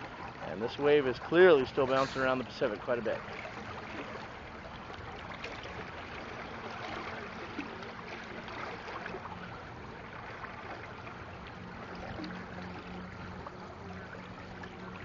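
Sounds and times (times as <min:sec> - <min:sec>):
water rushing and lapping against dock: 0:00.0 - 0:15.0.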